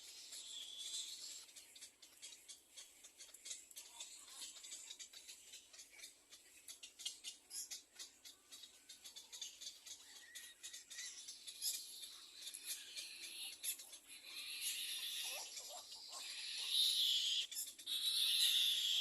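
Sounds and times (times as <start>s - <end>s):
chicks high clicking chatter: 0.0s - 19.0s.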